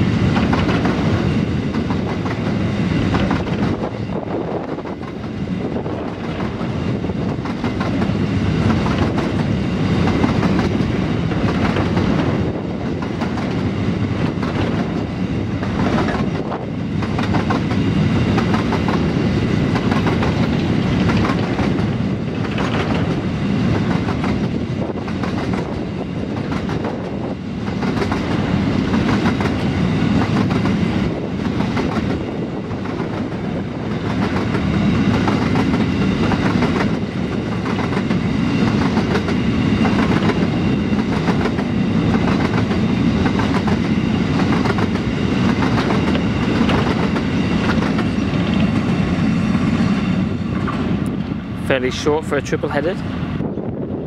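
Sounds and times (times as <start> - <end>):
train wagons rumbling: 0.0 - 54.0
wheels clickety-clack: 0.3 - 2.5, 3.1 - 4.0, 4.6 - 49.1.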